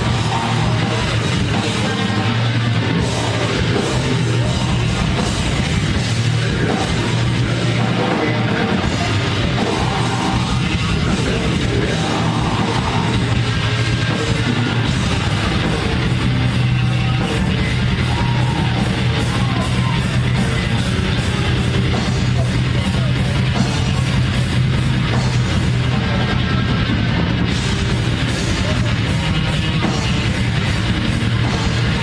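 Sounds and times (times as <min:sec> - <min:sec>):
distorted electric guitars: 0:00.0 - 0:32.0
drum kit: 0:00.0 - 0:32.0.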